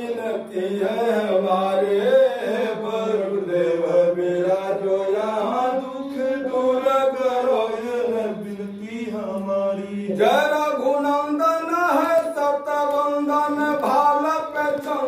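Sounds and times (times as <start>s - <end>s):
man chanting mantras: 0.0s - 15.0s.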